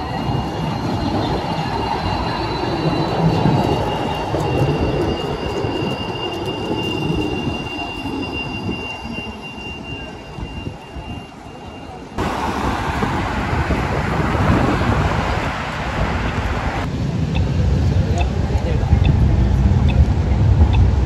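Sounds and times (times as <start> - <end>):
wheels squealing on rails: 0.0 - 16.9
tram rumbling: 0.0 - 21.0.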